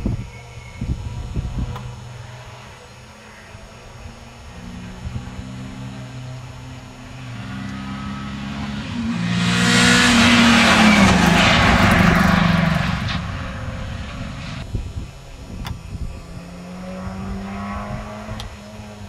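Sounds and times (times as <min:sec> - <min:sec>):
car engine passing at full throttle: 0:01.5 - 0:14.8, 0:15.9 - 0:19.0.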